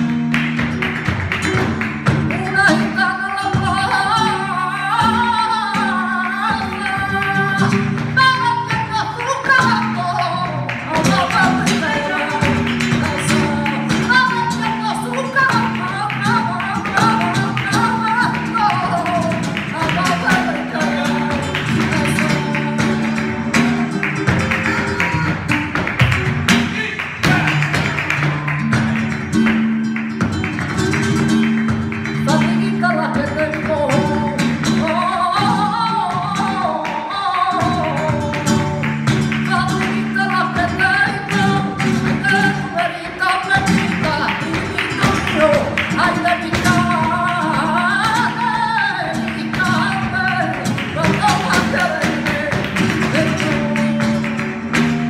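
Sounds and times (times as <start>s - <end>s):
flamenco guitar: 0.0s - 55.0s
rhythmic handclaps: 0.0s - 55.0s.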